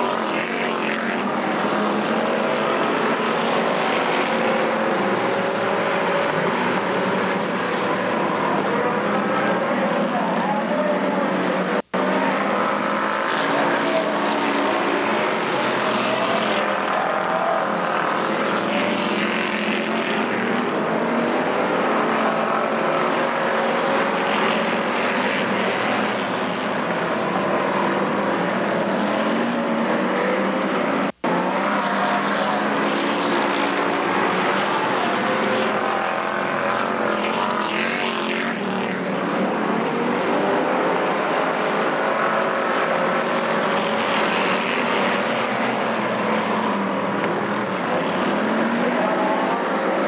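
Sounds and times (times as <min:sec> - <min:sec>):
race car engines: 0:00.0 - 0:50.0.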